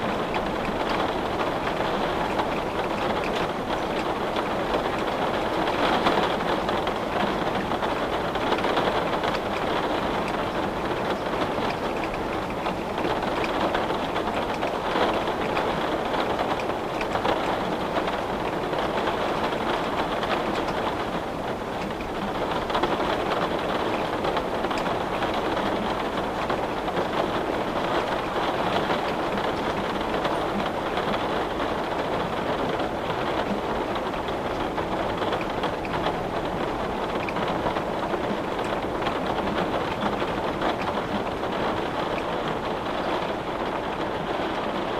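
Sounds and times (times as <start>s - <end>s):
rain on a window: 0.0s - 44.9s.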